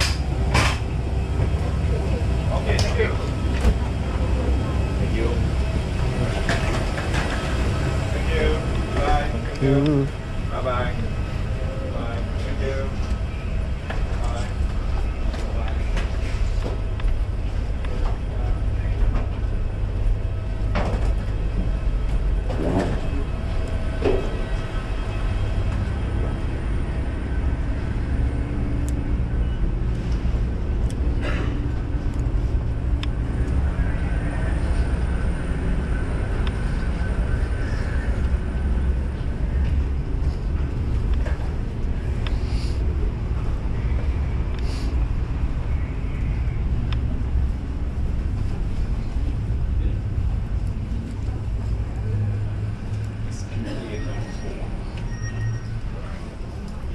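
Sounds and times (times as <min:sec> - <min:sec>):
airport walkway rumble: 0:00.0 - 0:56.9.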